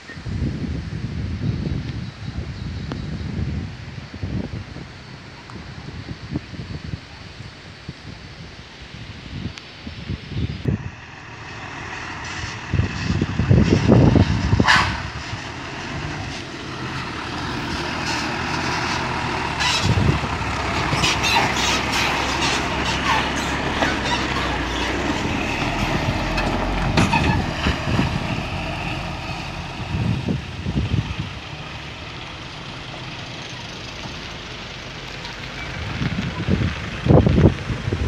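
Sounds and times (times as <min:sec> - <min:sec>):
tyre and road noise: 0:00.0 - 0:38.0
truck diesel engine: 0:03.2 - 0:38.0.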